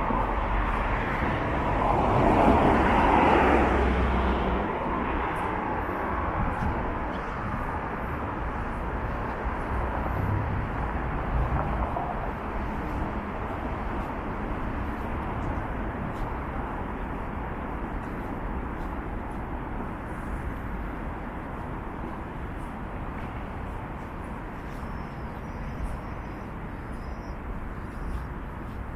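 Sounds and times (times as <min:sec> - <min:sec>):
road traffic hum: 0:00.0 - 0:28.9.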